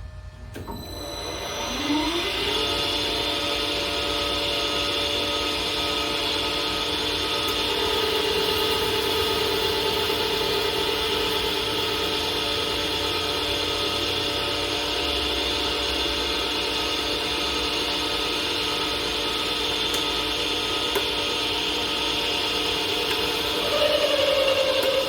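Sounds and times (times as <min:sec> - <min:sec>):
lathe motor humming and whining: 0:00.0 - 0:25.0.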